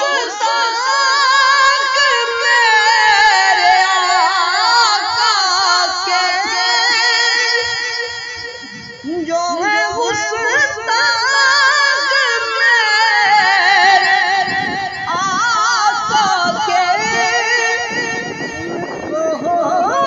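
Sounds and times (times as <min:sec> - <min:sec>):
person singing with vibrato: 0:00.0 - 0:20.0.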